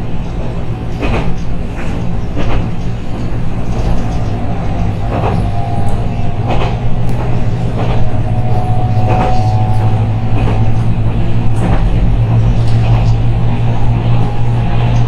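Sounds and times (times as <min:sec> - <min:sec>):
train running low rumble: 0:00.0 - 0:15.0.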